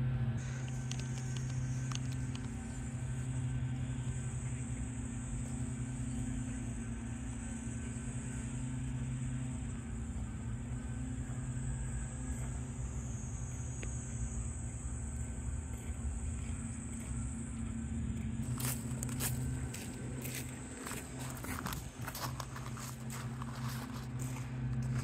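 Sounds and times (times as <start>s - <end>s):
low steady hum: 0.0s - 25.0s
cicada chorus buzzing: 0.4s - 25.0s.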